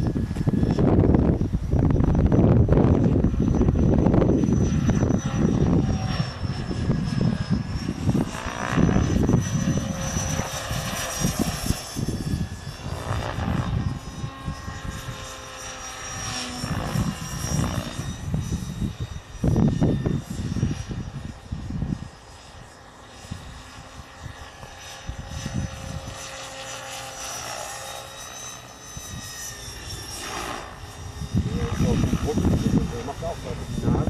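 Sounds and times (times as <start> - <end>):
wind buffeting microphone: 0.0 - 26.8, 28.9 - 34.0
rc helicopter whine: 0.0 - 34.0.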